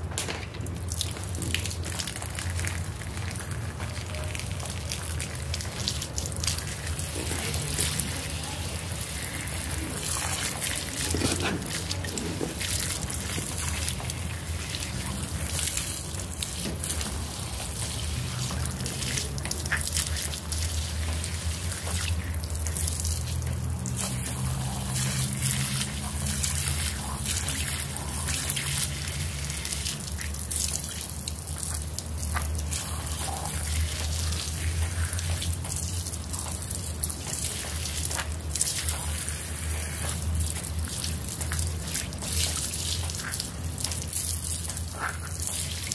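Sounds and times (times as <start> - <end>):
water trickling onto carpet: 0.0 - 45.9.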